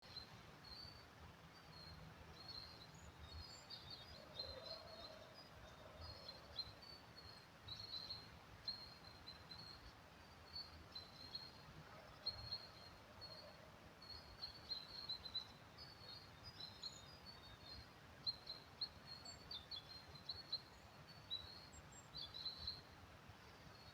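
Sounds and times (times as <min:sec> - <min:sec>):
small birds twittering: 0:00.0 - 0:23.9.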